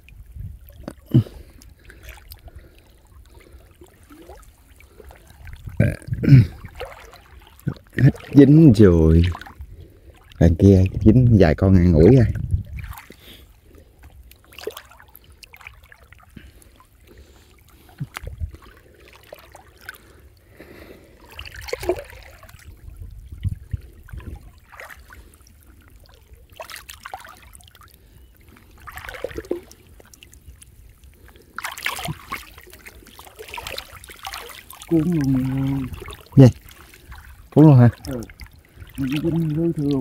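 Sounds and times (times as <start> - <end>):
water sloshing and dripping: 0.0 - 40.0
water splashes: 0.0 - 40.0.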